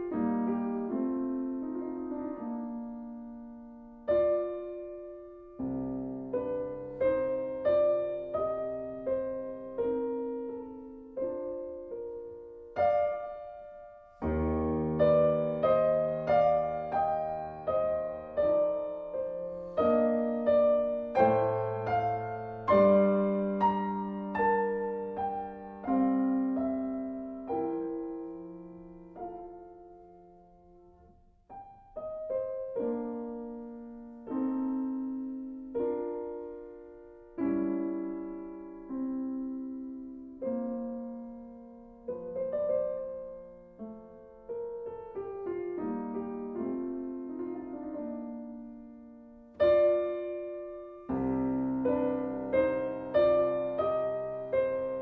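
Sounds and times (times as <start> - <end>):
gentle solo piano: 0.0 - 55.0.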